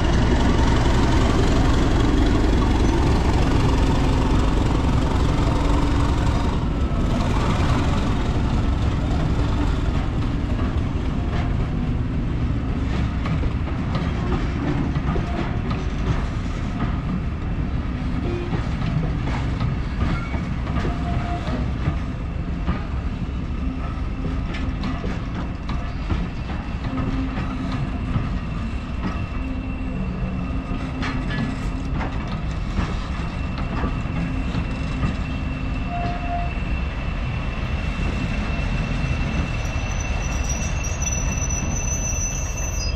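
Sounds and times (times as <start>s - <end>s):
train wheels clacking over rail joints: 0.0s - 29.7s, 30.6s - 36.5s
diesel locomotive rumble: 0.0s - 42.9s.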